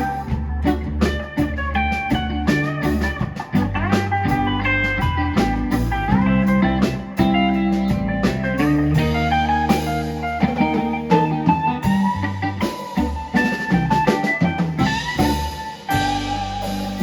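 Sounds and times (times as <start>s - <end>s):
bass guitar: 0.0s - 17.0s
drum kit beat: 0.0s - 17.0s
lead guitar with bent notes: 0.0s - 17.0s.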